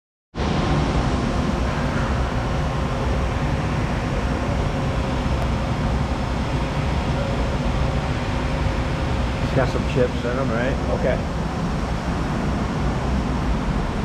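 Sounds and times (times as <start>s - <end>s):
industrial machinery drone: 0.4s - 14.0s.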